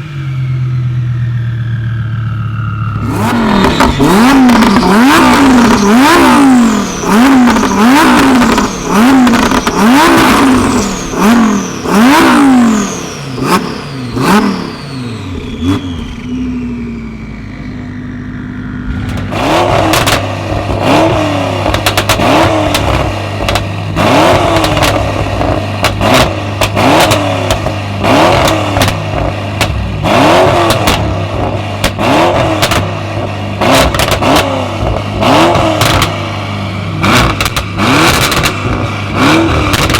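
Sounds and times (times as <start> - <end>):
car engine idling: 0.0 - 39.9
car engines revving in blips: 1.5 - 39.9
sharp exhaust cracks: 2.9 - 14.7, 18.8 - 39.9.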